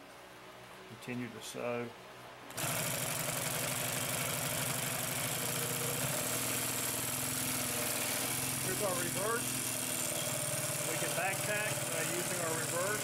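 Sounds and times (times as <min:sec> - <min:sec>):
industrial sewing machine running: 0:02.5 - 0:13.0.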